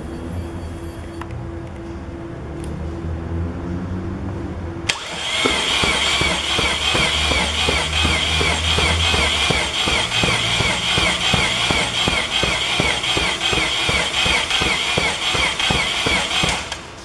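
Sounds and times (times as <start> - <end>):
rotary engine spinning: 0.0 - 16.6.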